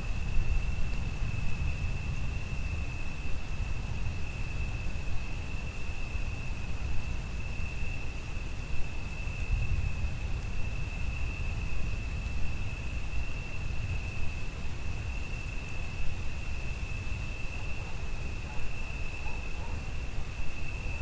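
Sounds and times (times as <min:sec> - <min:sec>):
cricket trilling: 0:00.0 - 0:21.0
faint rain hiss: 0:00.0 - 0:21.0.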